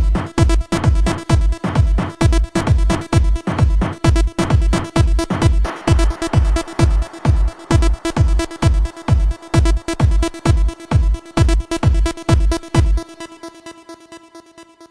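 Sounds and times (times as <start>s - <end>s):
heavy kick drum: 0.0s - 13.2s
electronic dance music: 0.0s - 14.9s.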